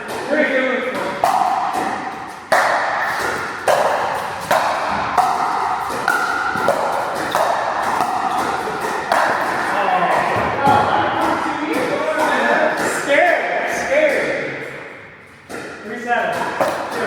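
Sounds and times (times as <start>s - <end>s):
paddle hitting ball: 0.0s - 14.9s, 15.5s - 17.0s.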